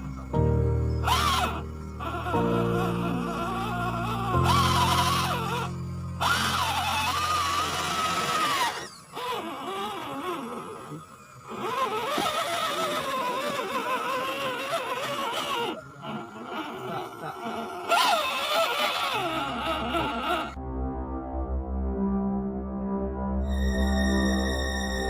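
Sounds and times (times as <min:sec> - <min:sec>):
toy car electric motor whine: 0:00.0 - 0:20.6.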